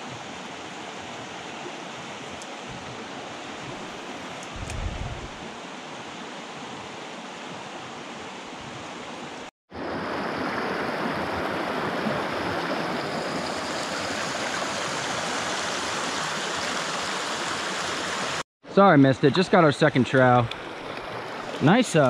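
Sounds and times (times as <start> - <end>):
stream rushing over stones: 0.0 - 18.4, 19.3 - 22.0.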